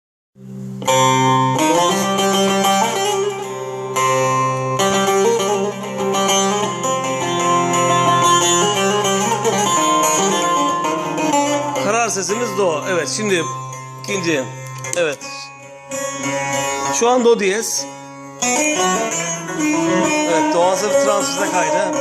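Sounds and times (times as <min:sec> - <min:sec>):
plucked string melody: 0:00.4 - 0:22.0
ringing low string drone: 0:00.6 - 0:22.0.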